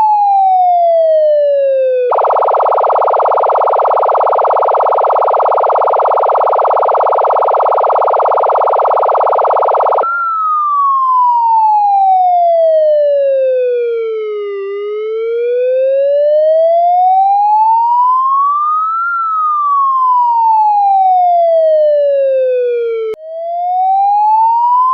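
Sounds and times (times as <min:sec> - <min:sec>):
harsh buzzing siren tone: 0:00.0 - 0:24.9
wailing siren: 0:00.0 - 0:24.9.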